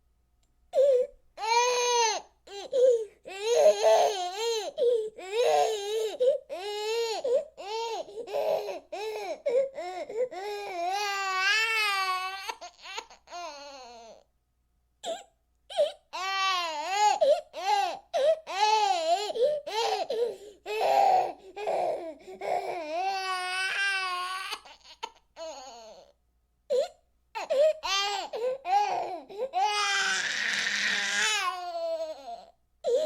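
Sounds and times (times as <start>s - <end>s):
baby crying and laughing: 0.8s - 14.2s, 15.0s - 26.1s, 26.7s - 33.0s.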